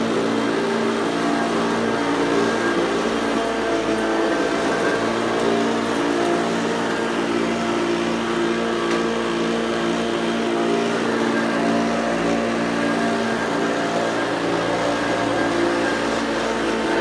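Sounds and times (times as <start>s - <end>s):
vacuum cleaner running on carpet: 0.0s - 17.0s.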